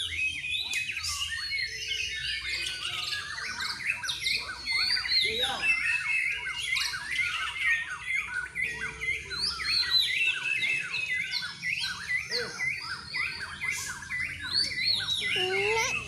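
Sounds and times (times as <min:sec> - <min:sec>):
birds singing whistled phrases: 0:00.0 - 0:16.0.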